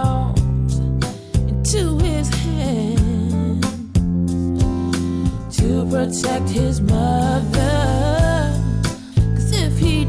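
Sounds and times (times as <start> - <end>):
song with bass notes: 0.0 - 10.0.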